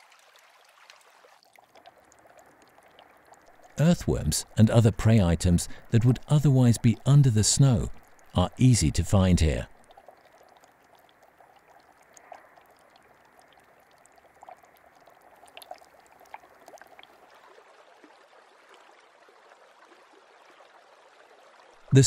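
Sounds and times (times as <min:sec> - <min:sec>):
shallow water trickling: 0:00.0 - 0:21.9.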